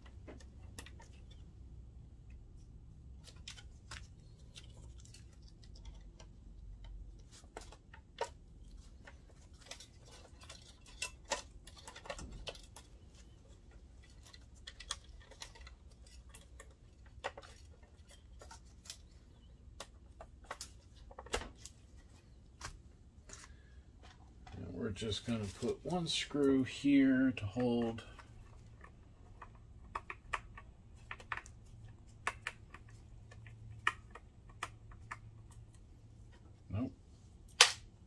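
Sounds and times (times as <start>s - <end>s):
hands handling cables and connectors: 0.0s - 38.0s.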